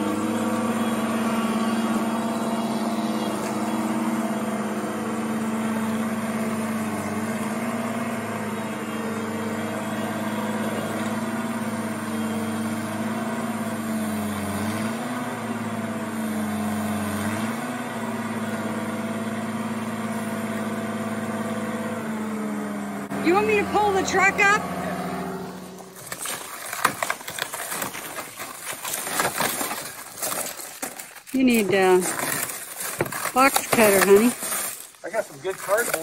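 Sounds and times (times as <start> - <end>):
skid steer engine running: 0.0 - 36.0.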